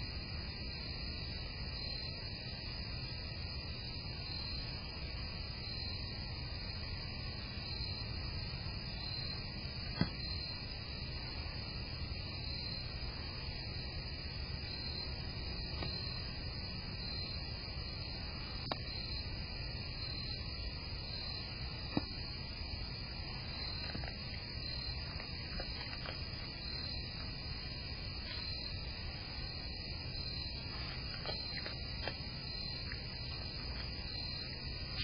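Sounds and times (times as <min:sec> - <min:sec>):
low constant rumble: 0:00.0 - 0:35.0
night insects chirping: 0:00.0 - 0:35.0.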